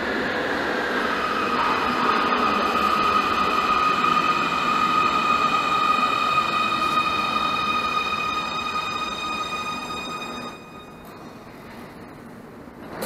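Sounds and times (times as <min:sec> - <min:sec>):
train high whine: 0:00.0 - 0:12.7
train wheels rumbling on rails: 0:00.0 - 0:13.0.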